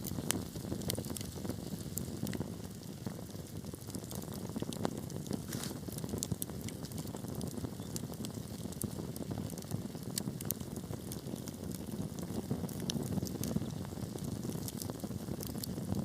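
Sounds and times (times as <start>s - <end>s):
fire crackling and popping: 0.0s - 16.0s
fire flames rushing: 0.0s - 16.0s.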